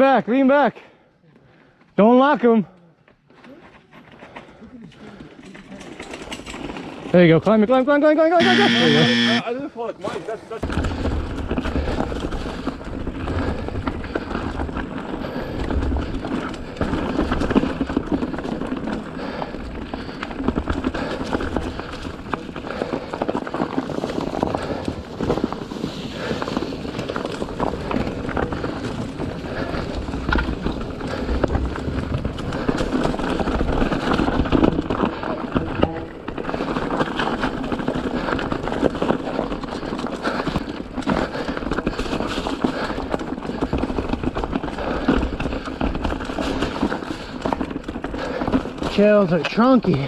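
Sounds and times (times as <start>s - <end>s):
bike frame rattling: 5.4s - 7.2s, 10.6s - 50.0s.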